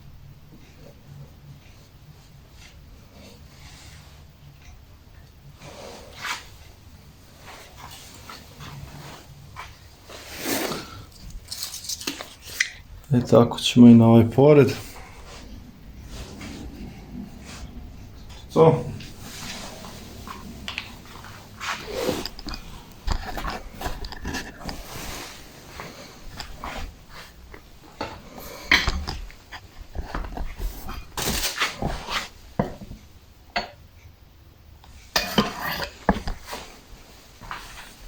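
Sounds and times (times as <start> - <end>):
handling noise rustling and scraping: 5.4 - 33.2, 34.9 - 38.0.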